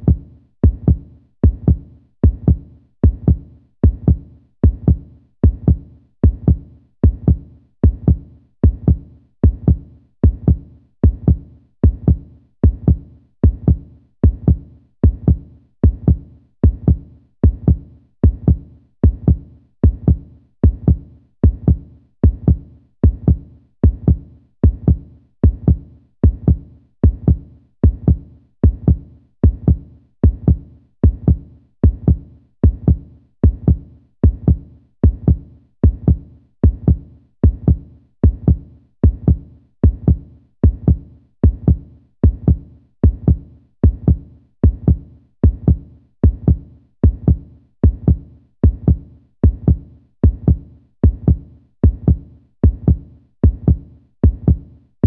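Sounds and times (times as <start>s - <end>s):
heartbeat thumps: 0.0s - 54.7s.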